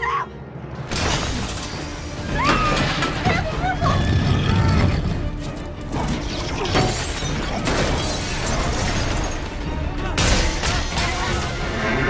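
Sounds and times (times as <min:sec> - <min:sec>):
film score music: 0:00.0 - 0:12.0
concrete and steel cracking: 0:00.8 - 0:12.0.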